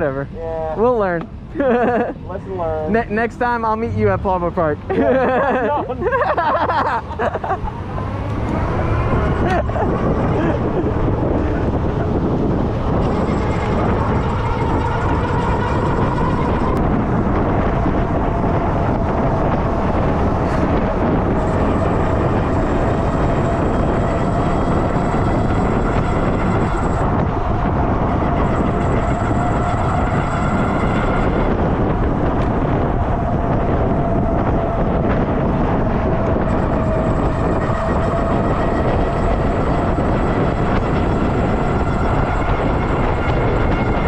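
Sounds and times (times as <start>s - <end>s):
wind noise on microphone: 0.0s - 44.0s
electric motor whine: 3.3s - 44.0s.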